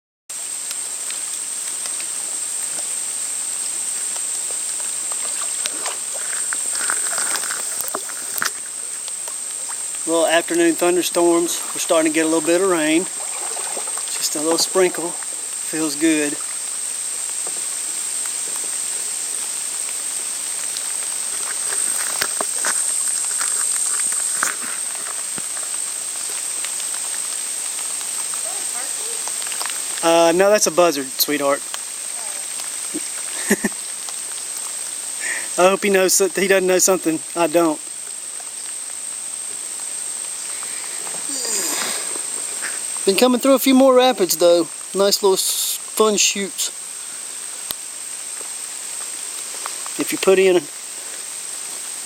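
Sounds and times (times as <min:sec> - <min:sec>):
insects droning: 0:00.3 - 0:52.0.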